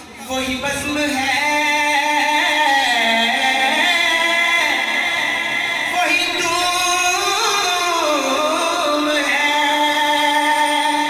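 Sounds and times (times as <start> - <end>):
person reciting melodically: 0.0 - 11.0.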